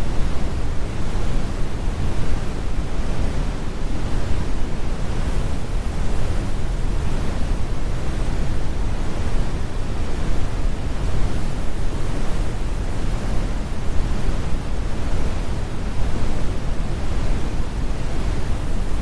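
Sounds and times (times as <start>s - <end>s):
brown noise rumble: 0.0s - 19.0s.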